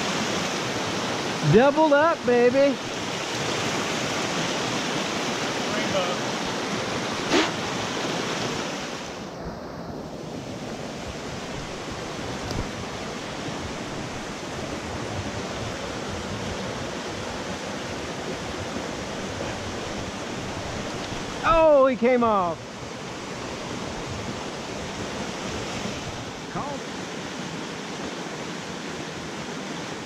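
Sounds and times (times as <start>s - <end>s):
stream rushing over boulders: 0.0s - 30.0s.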